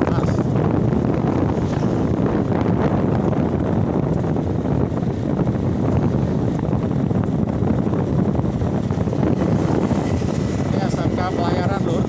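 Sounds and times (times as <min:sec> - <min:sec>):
motor scooter running: 0:00.0 - 0:12.0
wind rumble on microphone: 0:00.0 - 0:12.0.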